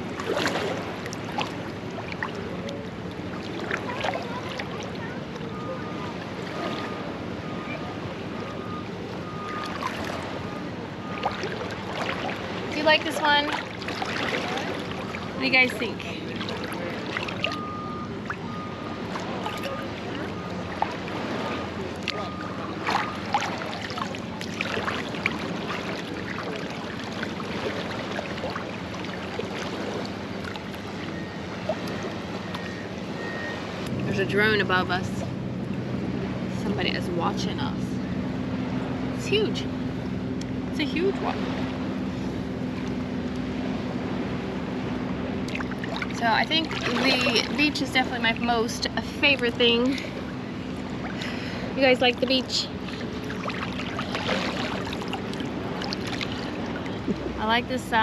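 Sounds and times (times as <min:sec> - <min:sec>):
sea water lapping: 0:00.0 - 0:58.0
steady low hum: 0:00.0 - 0:58.0.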